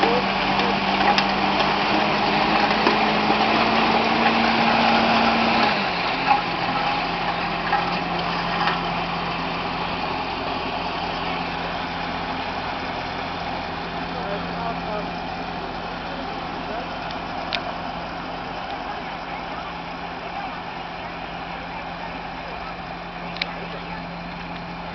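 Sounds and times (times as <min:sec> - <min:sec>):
loader engine running: 0:00.0 - 0:24.9.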